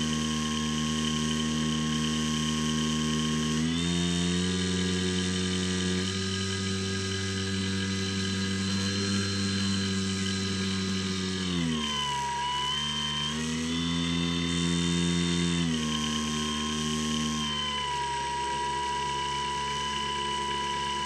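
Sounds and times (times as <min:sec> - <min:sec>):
model plane motor whine: 0:00.0 - 0:21.0.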